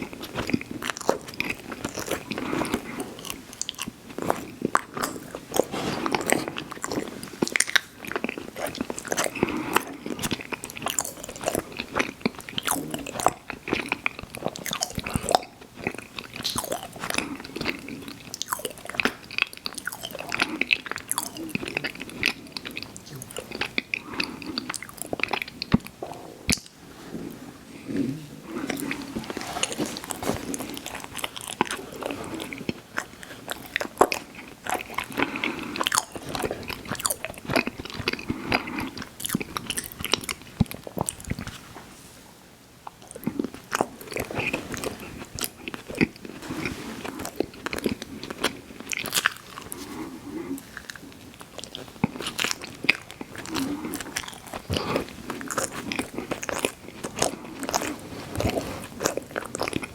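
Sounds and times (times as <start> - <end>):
crunchy chewing: 0.0 - 26.8, 27.8 - 41.7, 42.8 - 59.9.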